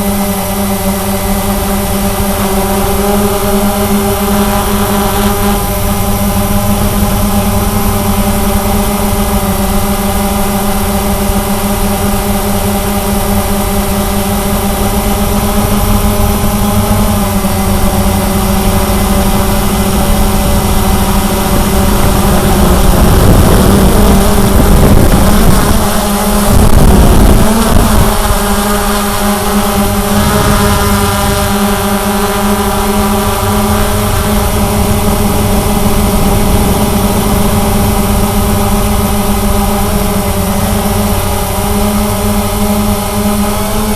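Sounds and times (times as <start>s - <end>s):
quadcopter motors humming: 0.0s - 43.9s
rushing buffeting noise: 0.0s - 43.9s.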